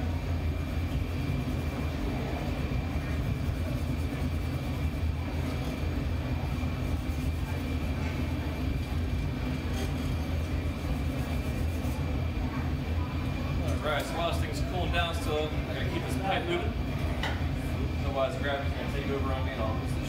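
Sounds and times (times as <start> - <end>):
gas furnace roaring: 0.0 - 20.0.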